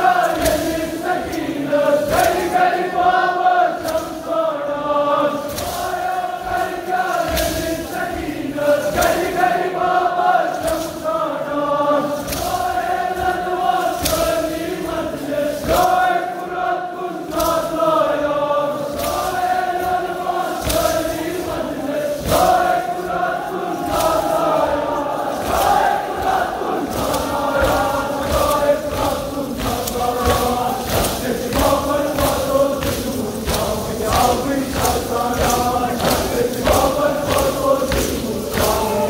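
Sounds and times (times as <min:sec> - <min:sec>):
men chanting a lament: 0:00.0 - 0:39.0
sharp beats: 0:05.0 - 0:39.0.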